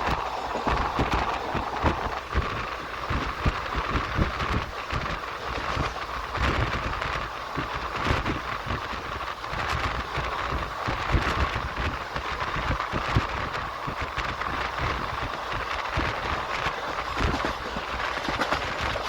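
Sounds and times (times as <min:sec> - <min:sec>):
train wheels rumbling on rails: 0:00.0 - 0:19.0
wind on microphone: 0:00.0 - 0:19.0.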